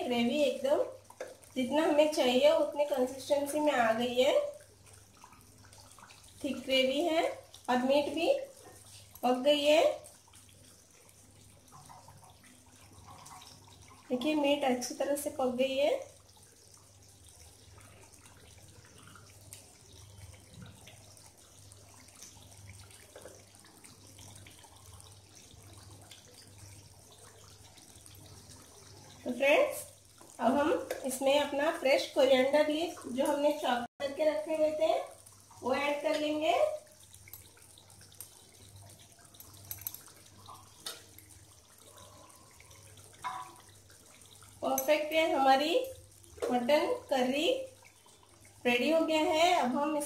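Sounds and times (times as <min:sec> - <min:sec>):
curry bubbling in a pan: 0:00.0 - 0:50.0.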